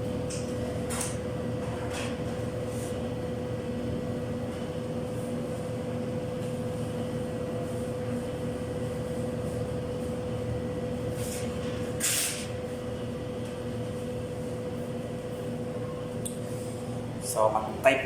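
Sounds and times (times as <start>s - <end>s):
analyser machine humming: 0.0s - 18.0s
mid-pitched whine: 0.0s - 18.0s.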